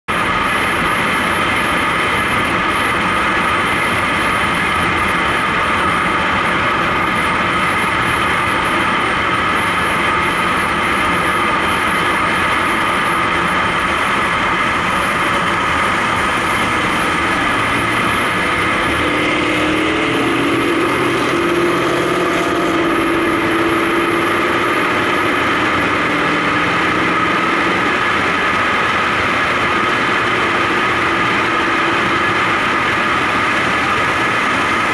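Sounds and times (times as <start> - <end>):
engine drone: 0.0 - 34.9
wind and road noise: 0.1 - 34.9.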